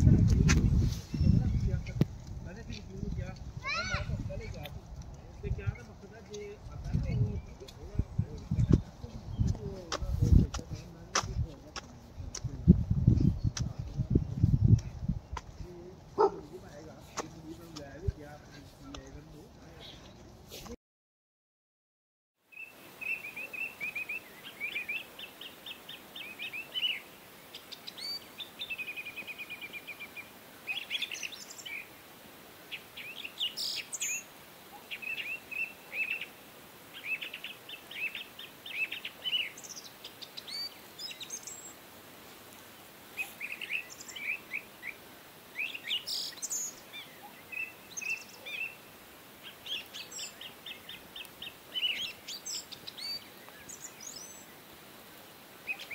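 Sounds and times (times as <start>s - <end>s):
songbirds singing and chirping: 0.0s - 20.5s, 22.5s - 55.9s
faint steady hiss: 0.0s - 20.8s, 22.4s - 55.9s.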